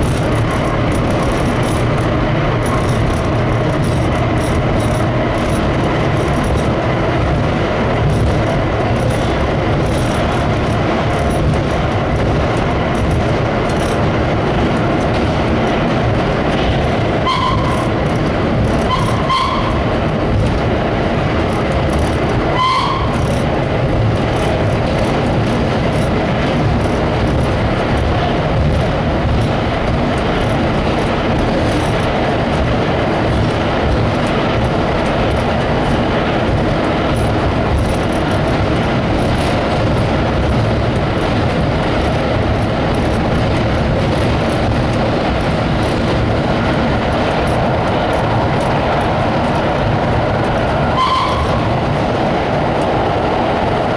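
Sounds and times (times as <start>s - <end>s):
subway train rumbling in tunnel: 0.0s - 53.9s.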